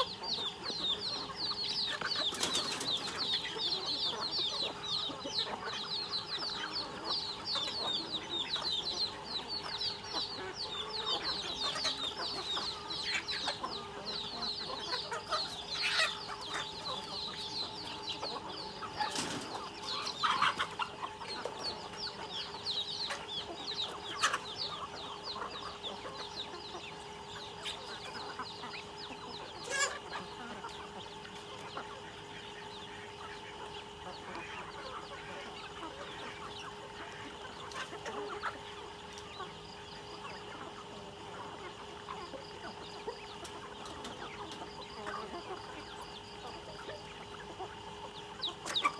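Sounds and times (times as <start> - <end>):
chickens chirping: 0.0 - 48.9
faint steady hum: 0.0 - 48.9.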